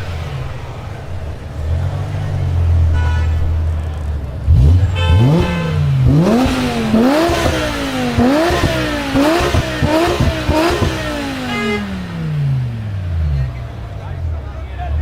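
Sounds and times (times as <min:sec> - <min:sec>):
car engine with loud exhaust: 0:00.0 - 0:15.0.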